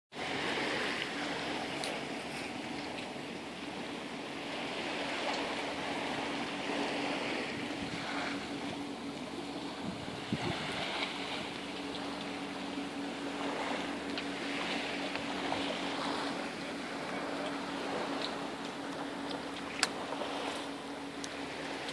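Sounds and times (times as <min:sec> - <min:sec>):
water lapping at shore: 0:00.1 - 0:21.9
low hum: 0:00.2 - 0:21.9.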